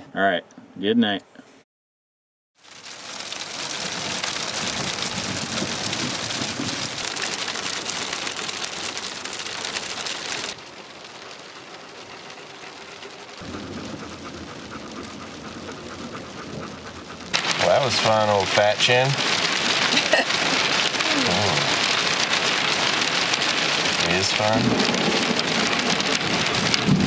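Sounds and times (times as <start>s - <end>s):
hail and rain pelting down: 2.6s - 27.0s.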